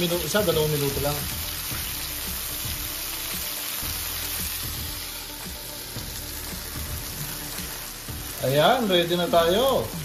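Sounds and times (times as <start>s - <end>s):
fish frying in oil: 0.0s - 10.0s.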